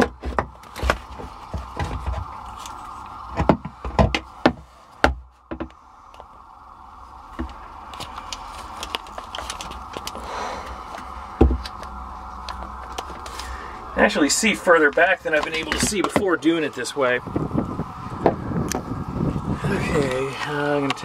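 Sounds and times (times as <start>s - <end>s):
steady mid-pitched hiss: 0.0s - 21.0s.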